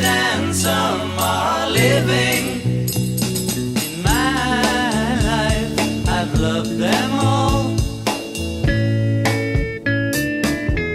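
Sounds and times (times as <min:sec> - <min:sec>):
steady bass line: 0:00.0 - 0:10.9.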